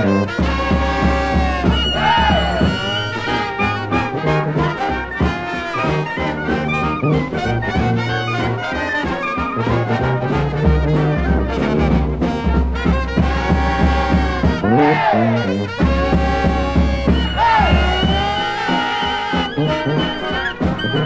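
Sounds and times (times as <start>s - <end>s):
brass band playing blues: 0.0s - 21.0s.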